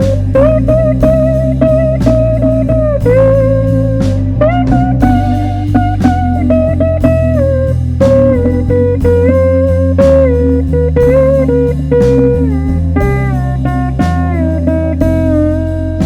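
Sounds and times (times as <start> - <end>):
bending lead guitar notes: 0.0 - 16.0
blues band music: 0.0 - 16.0.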